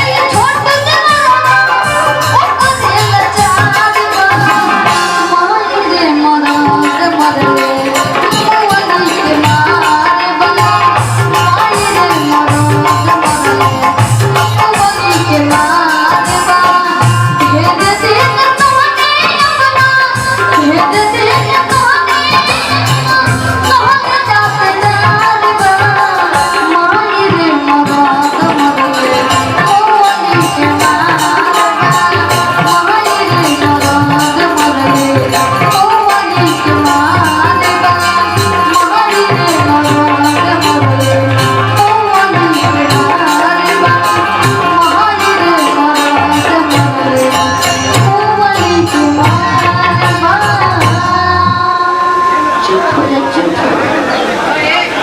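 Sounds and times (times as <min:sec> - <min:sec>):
rattling percussion: 0:00.0 - 0:53.1
hand drums beat: 0:00.0 - 0:53.2
live music melody: 0:00.0 - 0:55.0.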